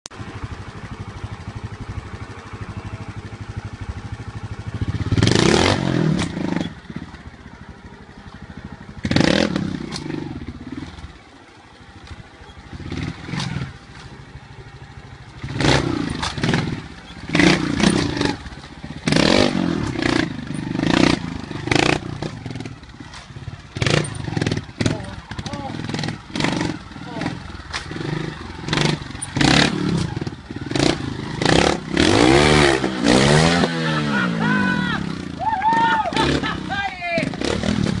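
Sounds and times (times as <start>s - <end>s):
motorcycle engine revving: 0.1s - 38.0s.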